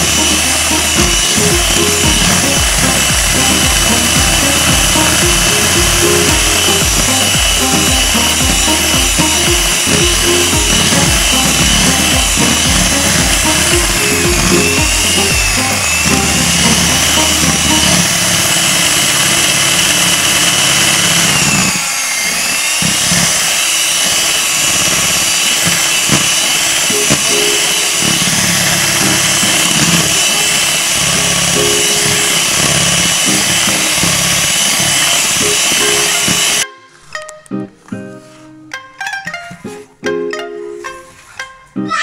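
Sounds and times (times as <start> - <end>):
background music: 0.0 - 21.3, 26.9 - 42.0
electric hand mixer whirring: 0.0 - 36.7.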